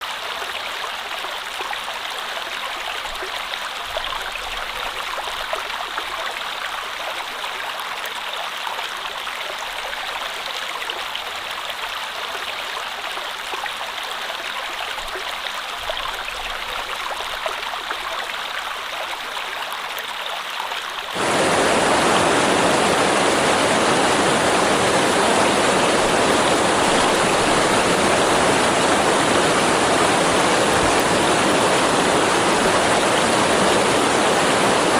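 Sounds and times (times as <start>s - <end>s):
rushing stream water: 0.0s - 34.9s.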